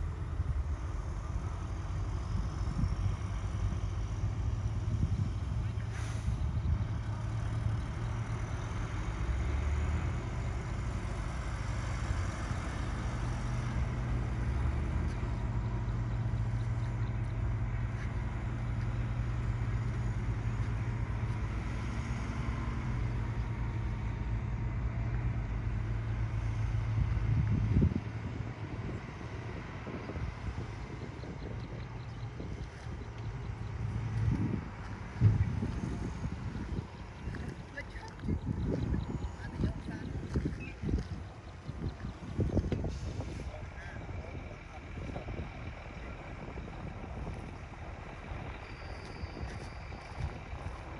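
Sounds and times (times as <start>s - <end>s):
heavy diesel machinery rumbling: 0.0s - 50.9s.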